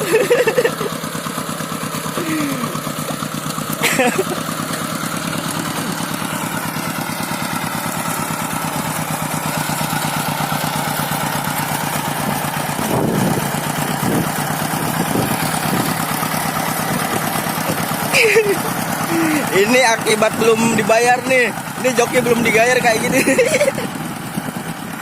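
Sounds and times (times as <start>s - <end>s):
small diesel engine chugging: 0.0s - 25.0s.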